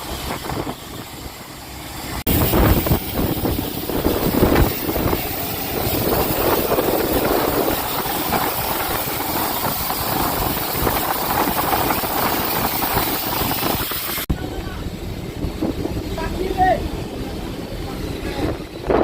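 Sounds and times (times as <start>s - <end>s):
heavy rain and storm wind: 0.0s - 19.0s
low rumbling thumps: 2.2s - 19.0s.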